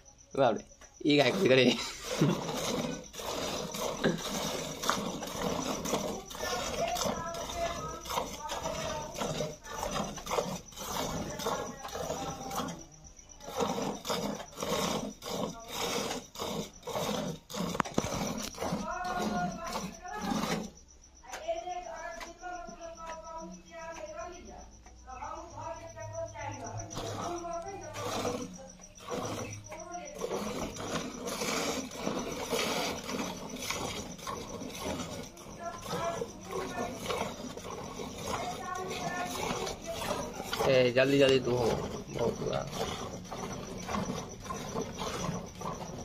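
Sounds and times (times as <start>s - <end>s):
milk squirting into bucket: 0.4s - 20.8s, 26.5s - 46.0s.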